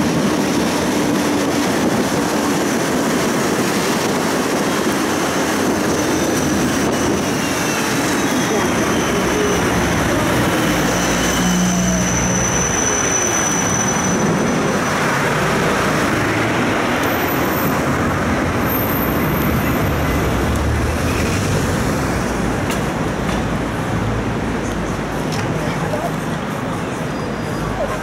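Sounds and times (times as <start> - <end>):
street traffic: 0.0 - 28.0
tram wheels rumbling on rails: 0.0 - 28.0.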